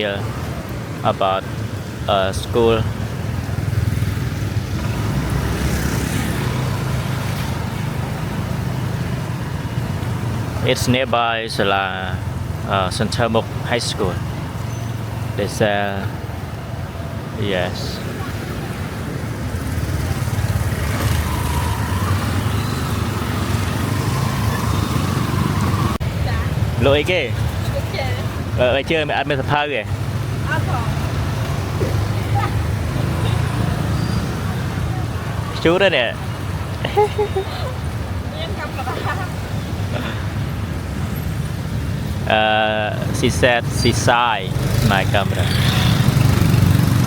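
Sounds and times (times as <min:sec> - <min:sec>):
passing vehicles rumbling: 0:00.0 - 0:47.0.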